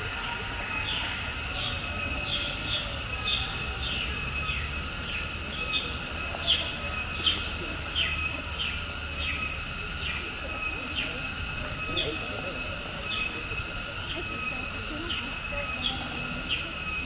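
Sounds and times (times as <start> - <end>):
cicadas calling in chorus: 0.0 - 17.0.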